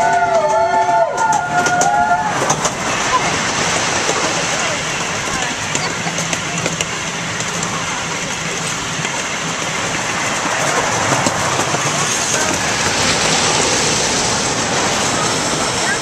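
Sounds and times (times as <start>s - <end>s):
miniature train wheels rumbling: 0.0s - 16.0s.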